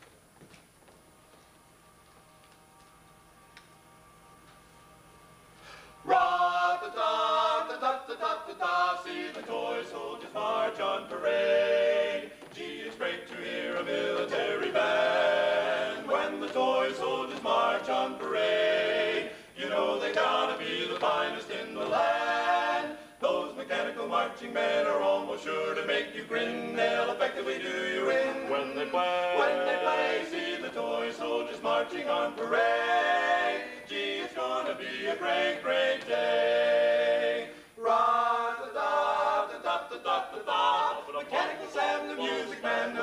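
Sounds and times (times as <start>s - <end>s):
male a cappella quartet singing: 6.0s - 43.0s.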